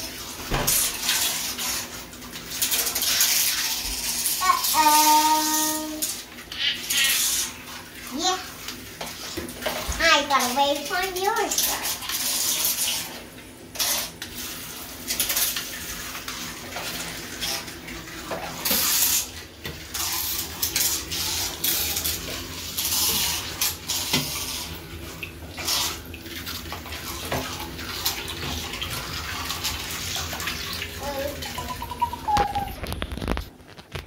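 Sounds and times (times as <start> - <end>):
water splashing in bathtub: 0.0 - 34.0.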